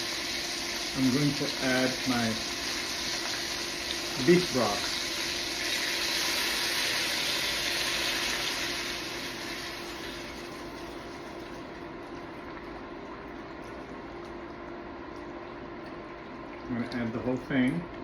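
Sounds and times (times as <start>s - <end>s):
broth pouring and sizzling: 0.0s - 17.2s.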